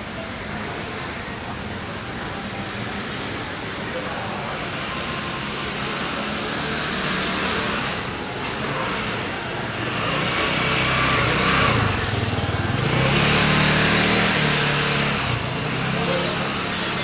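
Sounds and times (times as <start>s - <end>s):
steady traffic noise: 0.0s - 17.0s
vehicles passing close by: 0.0s - 17.0s.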